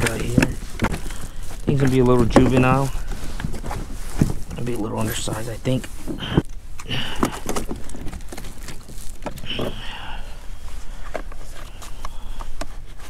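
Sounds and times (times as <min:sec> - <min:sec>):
fish handling knocks and rustles: 0:00.0 - 0:13.0.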